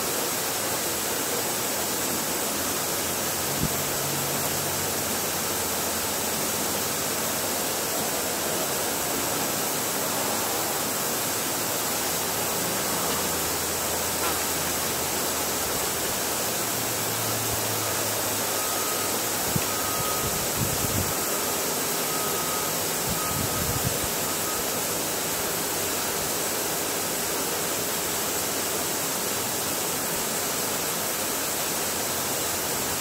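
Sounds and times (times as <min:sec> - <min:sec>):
steady rushing hiss: 0:00.0 - 0:33.0.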